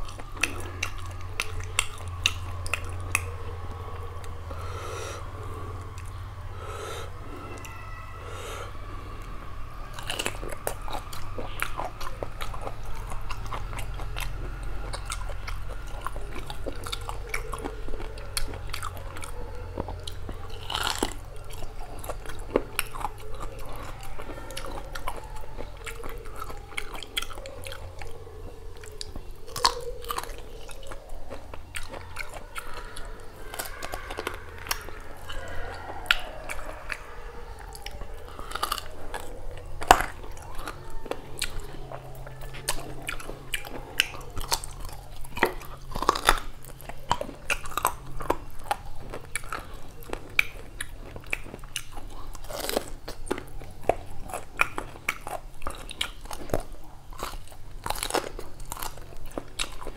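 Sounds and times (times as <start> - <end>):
low hum: 0.0 - 51.5
person chewing food: 0.0 - 59.9.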